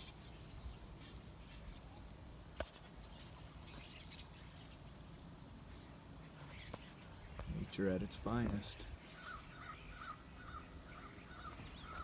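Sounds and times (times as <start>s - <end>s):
starlings chattering: 0.0s - 12.0s.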